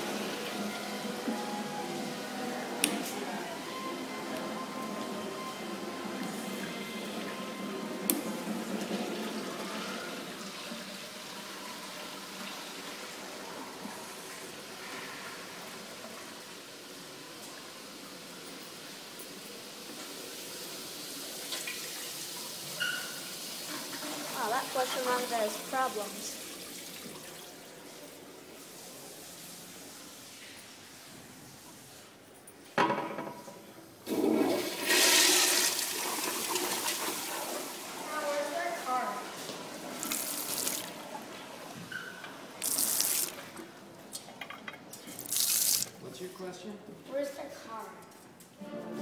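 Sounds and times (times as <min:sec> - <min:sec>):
water flushing through urinal: 0:00.0 - 0:32.1, 0:33.8 - 0:44.1, 0:45.0 - 0:46.1.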